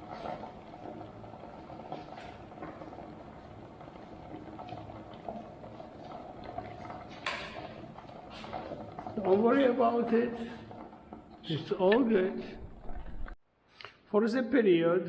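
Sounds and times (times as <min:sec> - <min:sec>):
water boiling in kettle: 0:00.0 - 0:13.4.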